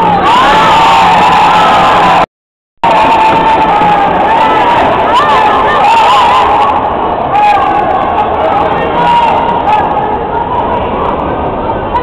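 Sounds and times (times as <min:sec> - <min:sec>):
crowd shouting and chanting: 0:00.0 - 0:12.0.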